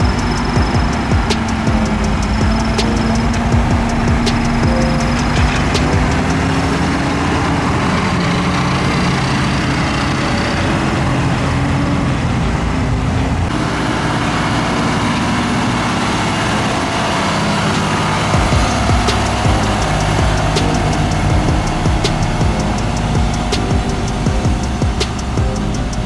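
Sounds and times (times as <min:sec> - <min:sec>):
diesel construction machinery running: 0:00.0 - 0:26.0.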